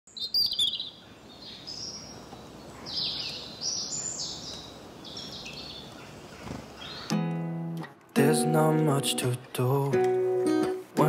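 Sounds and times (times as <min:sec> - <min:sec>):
birds chirping: 0:00.1 - 0:10.1.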